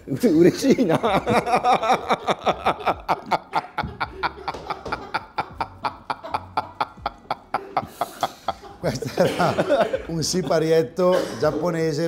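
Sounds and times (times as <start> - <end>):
men laughing: 0.2 - 11.1.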